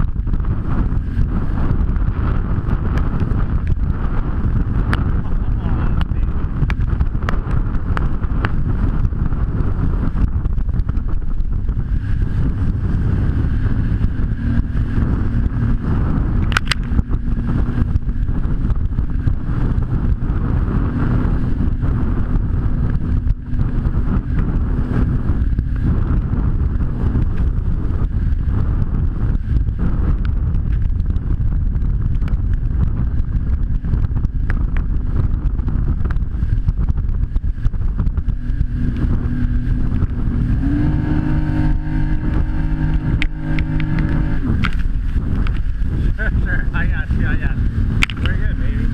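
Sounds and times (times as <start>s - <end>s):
jet ski engine hum: 0.0s - 48.9s
wind buffeting microphone: 0.0s - 48.9s.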